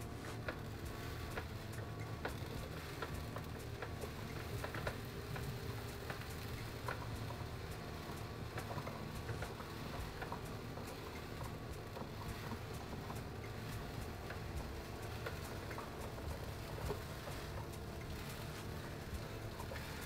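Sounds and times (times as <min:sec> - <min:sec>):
light irregular clicks: 0:00.0 - 0:20.0
steady low hum: 0:00.0 - 0:20.0.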